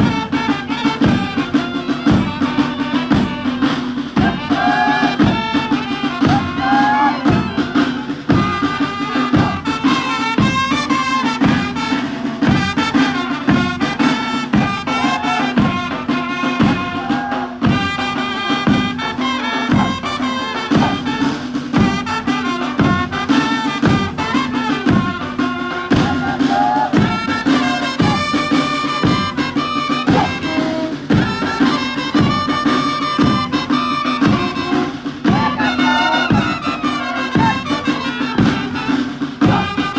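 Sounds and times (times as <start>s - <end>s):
music with steady beat: 0.0s - 39.9s.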